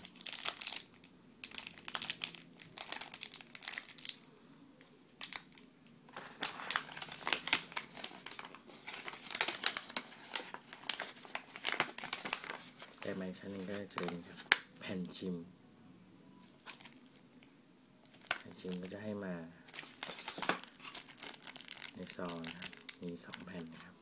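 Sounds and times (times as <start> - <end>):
plastic and paper crinkling: 0.0 - 4.3, 5.2 - 14.7, 16.5 - 17.2, 18.0 - 19.1, 19.7 - 23.9.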